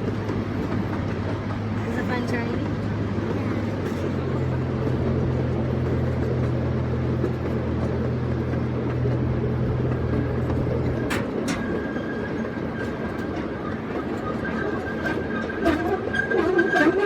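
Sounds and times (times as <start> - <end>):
train drive drone: 0.0 - 17.0.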